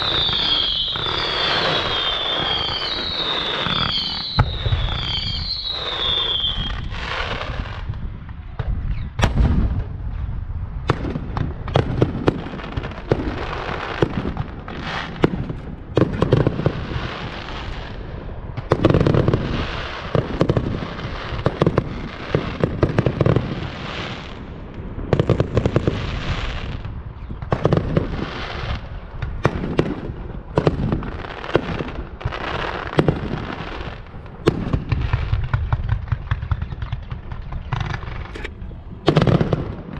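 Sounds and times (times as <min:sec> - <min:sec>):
fireworks bangs and crackling: 0:00.0 - 0:39.9
heavy fireworks booms: 0:00.0 - 0:39.9.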